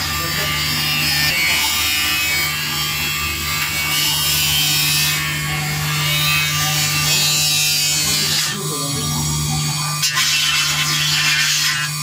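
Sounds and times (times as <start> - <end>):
cutter hissing on metal: 0.0 - 12.0
spindle motor hum: 0.0 - 12.0.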